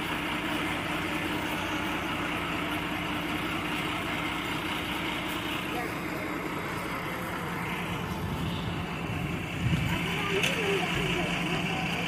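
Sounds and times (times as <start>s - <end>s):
bus engine humming: 0.0s - 12.0s.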